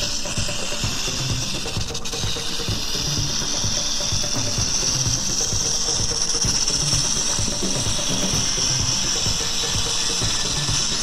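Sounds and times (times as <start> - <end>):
music with drum beat: 0.0 - 11.0.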